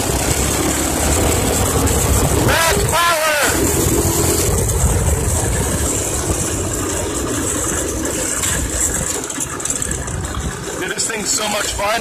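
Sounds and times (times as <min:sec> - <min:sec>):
minibike engine running: 0:00.0 - 0:12.0.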